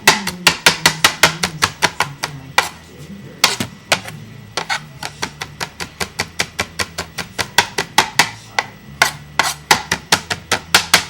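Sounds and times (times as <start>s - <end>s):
knife chopping on cutting board: 0.0s - 2.8s, 3.4s - 11.0s.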